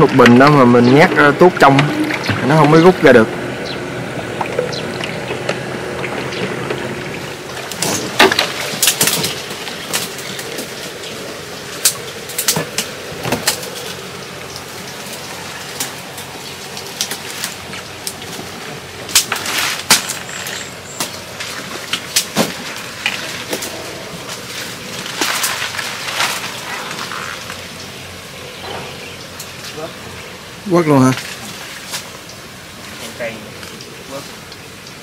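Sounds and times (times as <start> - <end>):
leaves and twigs rustling: 0.0 - 35.0.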